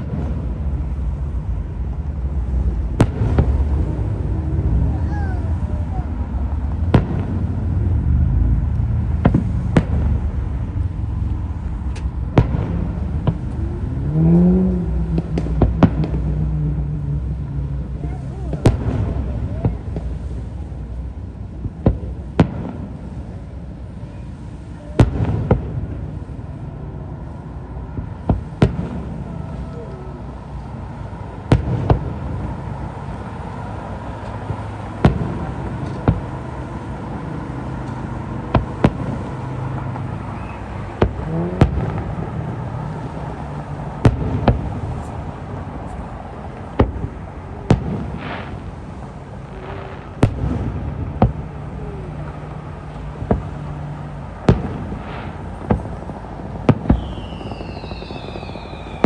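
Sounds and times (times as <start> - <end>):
distant fireworks booming: 0.0 - 59.0
low rumble: 0.0 - 59.0.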